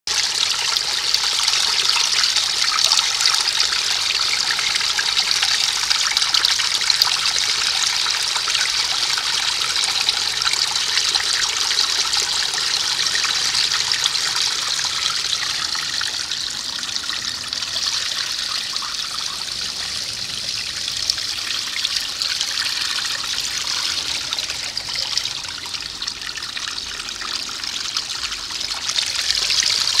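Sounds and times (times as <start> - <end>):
stream trickling over stones: 0.1 - 30.0.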